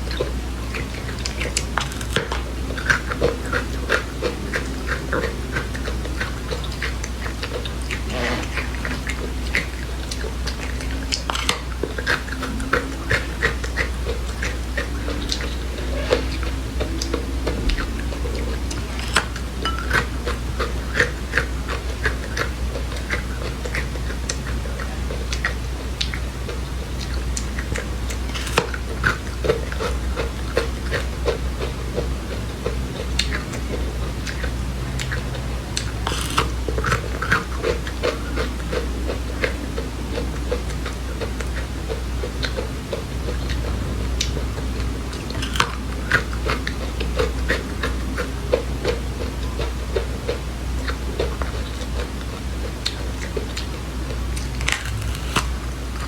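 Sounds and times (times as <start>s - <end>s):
person chewing seeds: 0.0s - 56.0s
steady low hum: 0.0s - 56.0s.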